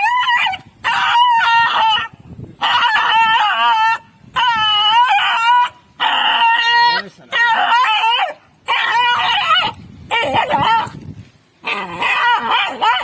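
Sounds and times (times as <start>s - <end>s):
dog howling in distress: 0.0s - 11.0s, 11.6s - 13.0s.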